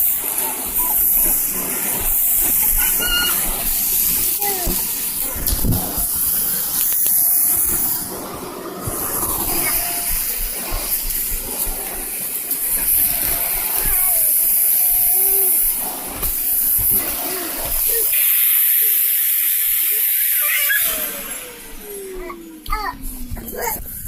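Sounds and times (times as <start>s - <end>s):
vacuum cleaner running: 0.0s - 24.0s
vacuum motor winding down: 0.0s - 24.0s.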